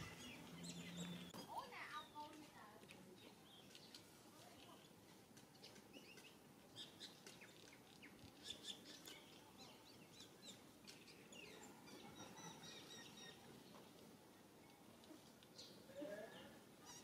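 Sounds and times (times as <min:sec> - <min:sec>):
low outdoor hum: 0:00.0 - 0:17.0
small birds chirping: 0:00.0 - 0:17.0.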